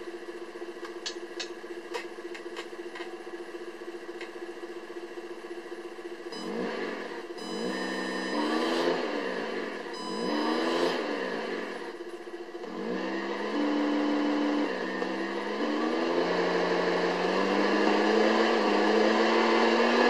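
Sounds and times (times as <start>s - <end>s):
simulated truck engine through speaker: 0.0s - 20.0s.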